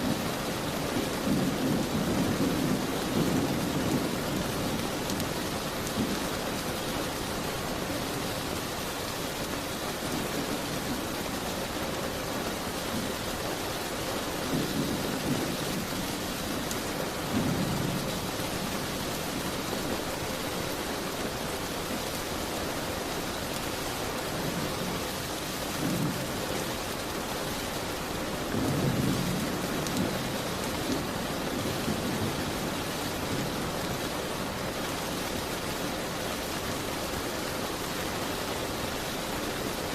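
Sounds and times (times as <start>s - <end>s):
rain beating on a window: 0.0s - 39.9s.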